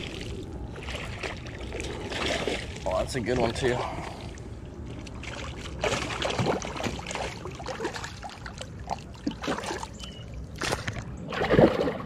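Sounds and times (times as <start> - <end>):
water splashing around kayak: 0.0 - 12.0.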